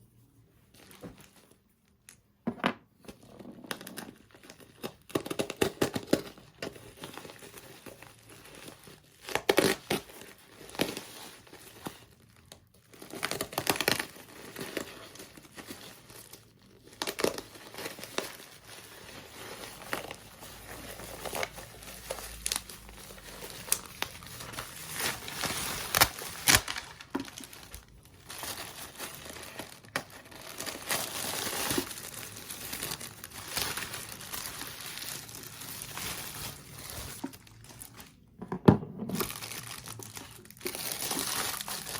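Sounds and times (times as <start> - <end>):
plastic packaging crinkling and tearing: 3.7 - 38.3, 39.1 - 41.9.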